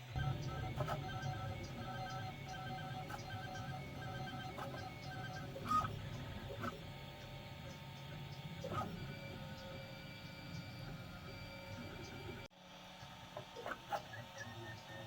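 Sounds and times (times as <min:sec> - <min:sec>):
stepper motors whining: 0:00.0 - 0:12.5.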